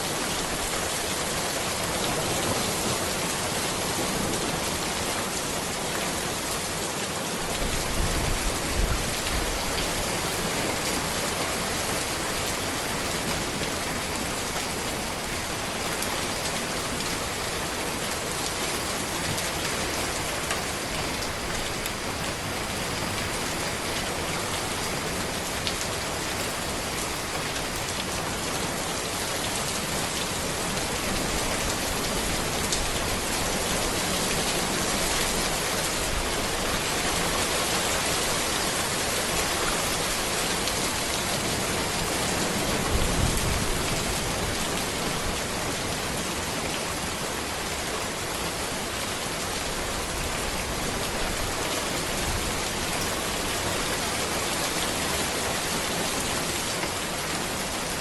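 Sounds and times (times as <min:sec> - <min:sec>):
rain falling on road and trees: 0:00.0 - 0:58.0.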